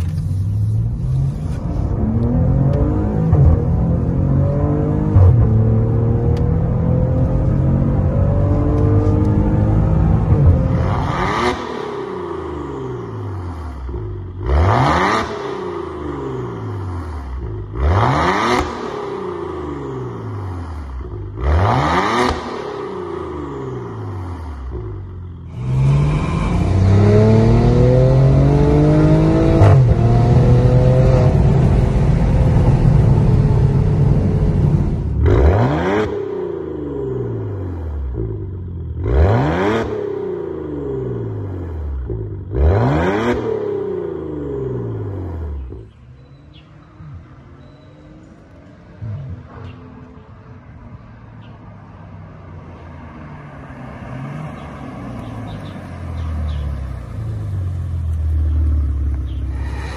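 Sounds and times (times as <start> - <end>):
car engine revving: 0.0 - 51.5, 53.3 - 59.9
car engine accelerating: 0.0 - 59.9.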